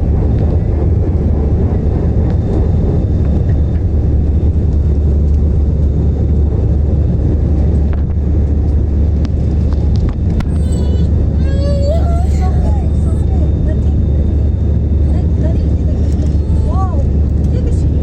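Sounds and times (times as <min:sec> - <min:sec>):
airplane engine rumble: 0:00.0 - 0:18.0.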